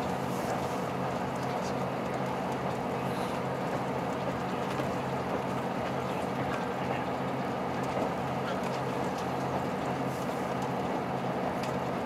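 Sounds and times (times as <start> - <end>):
train engine hum: 0.0 - 12.0
train running noise: 0.0 - 12.0.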